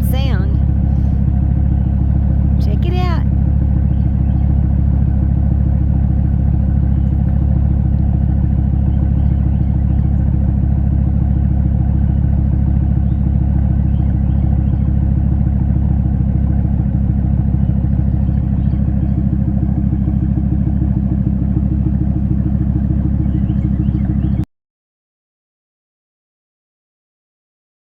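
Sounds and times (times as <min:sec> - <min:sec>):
vehicle engine idling: 0:00.0 - 0:24.4.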